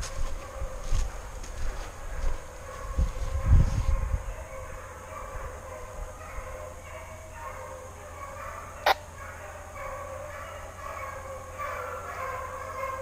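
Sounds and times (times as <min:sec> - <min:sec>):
distant hounds baying: 0:00.0 - 0:13.0.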